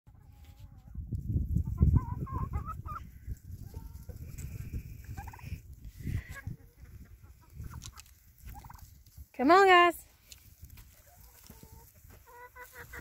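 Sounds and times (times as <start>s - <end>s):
chickens clucking and squawking: 0.1s - 9.2s, 10.3s - 13.0s.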